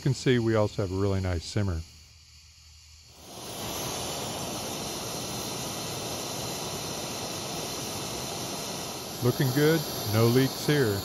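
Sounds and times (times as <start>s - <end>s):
stove burner hissing: 0.0s - 11.0s.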